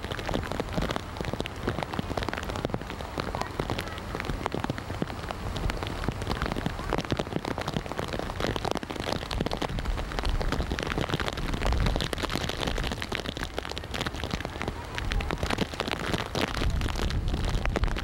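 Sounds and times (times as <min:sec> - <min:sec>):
rain drops striking close: 0:00.0 - 0:18.0.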